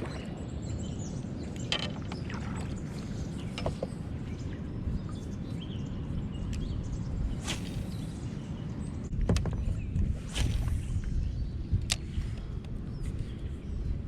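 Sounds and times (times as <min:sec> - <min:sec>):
steady low rumble: 0:02.4 - 0:14.0.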